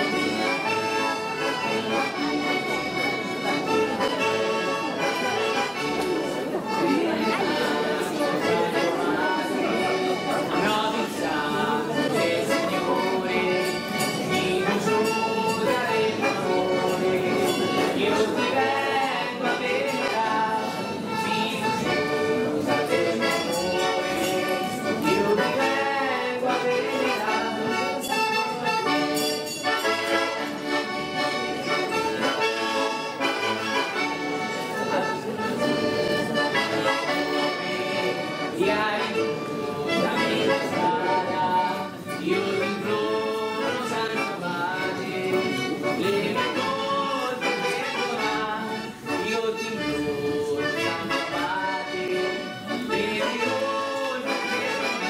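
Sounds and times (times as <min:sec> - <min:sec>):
accordions playing folk tune: 0:00.0 - 0:55.0.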